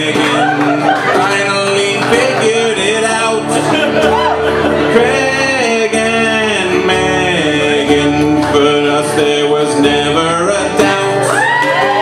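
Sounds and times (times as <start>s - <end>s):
man singing: 0.0s - 12.0s
strummed acoustic guitar: 0.0s - 12.0s.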